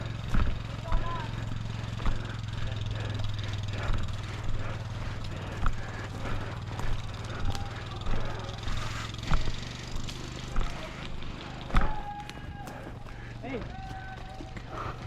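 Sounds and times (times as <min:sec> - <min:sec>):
footsteps walking: 0:00.0 - 0:15.0
low hum: 0:00.0 - 0:15.0.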